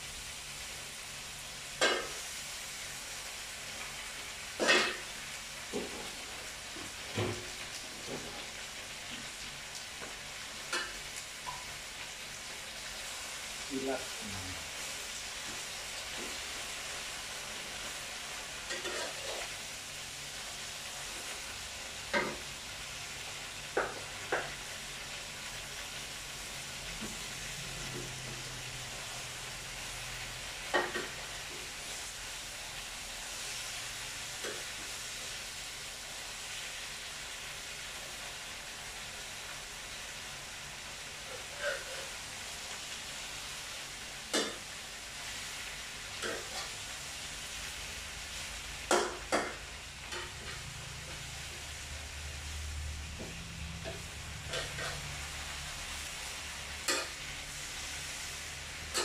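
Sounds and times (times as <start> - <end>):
tofu sizzling in oil: 0.0 - 59.0.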